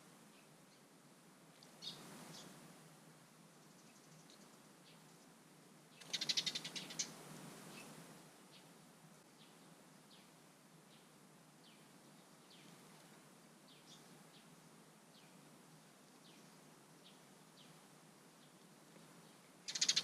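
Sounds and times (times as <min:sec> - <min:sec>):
steady low hiss: 0:00.0 - 0:20.0
bird chirping faintly: 0:00.2 - 0:02.6, 0:03.4 - 0:20.0.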